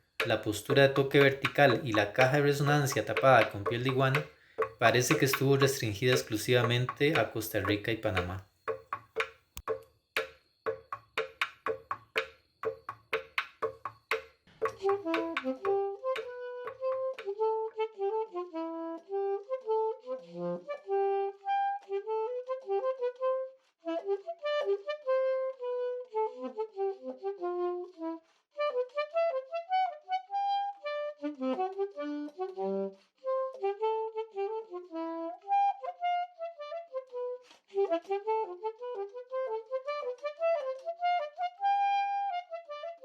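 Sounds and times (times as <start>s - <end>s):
woodwind melody: 0.0s - 8.4s, 14.7s - 43.0s.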